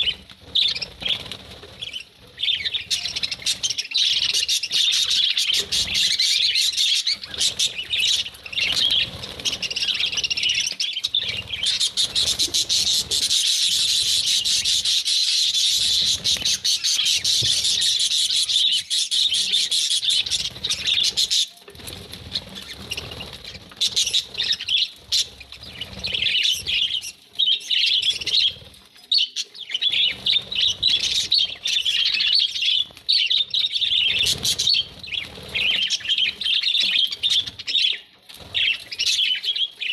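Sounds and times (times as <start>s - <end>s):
budgerigars chirping: 0.0s - 21.5s, 22.3s - 28.6s, 29.2s - 39.9s.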